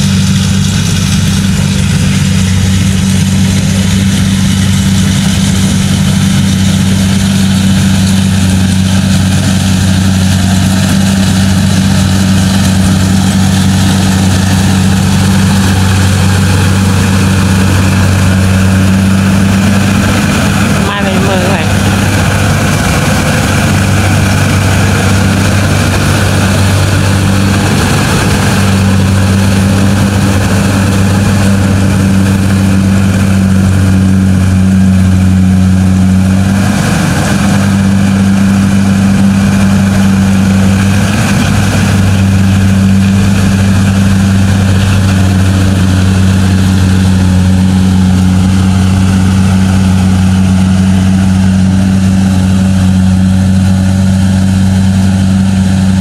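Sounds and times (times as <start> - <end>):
combine harvester diesel engine drone: 0.0 - 56.0.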